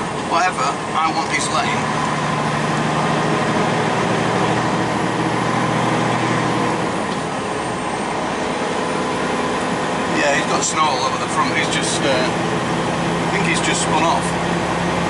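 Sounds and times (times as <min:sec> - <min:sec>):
road noise: 0:00.0 - 0:15.0
truck diesel engine under load: 0:00.0 - 0:15.0.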